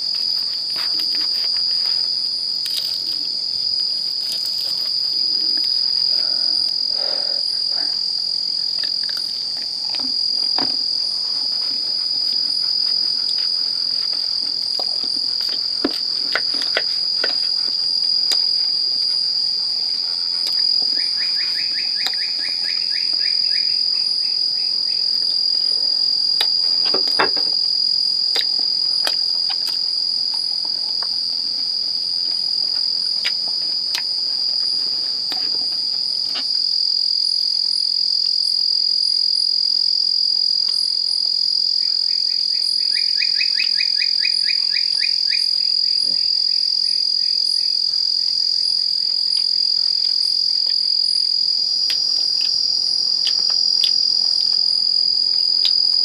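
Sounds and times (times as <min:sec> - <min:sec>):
fast pulsing insect trill: 0:00.0 - 0:56.0
high-pitched insect trill: 0:00.0 - 0:56.0.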